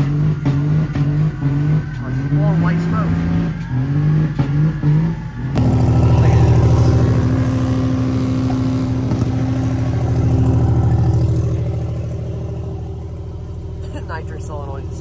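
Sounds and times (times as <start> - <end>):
diesel pickup engine running: 0.0 - 15.0.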